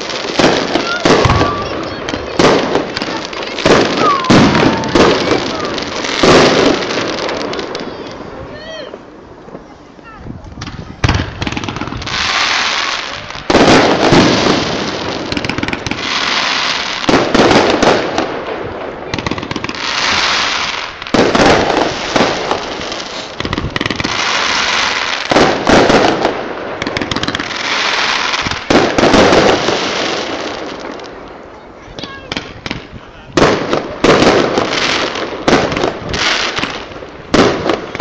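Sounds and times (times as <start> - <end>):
firework hissing and crackling: 0.0 - 38.0.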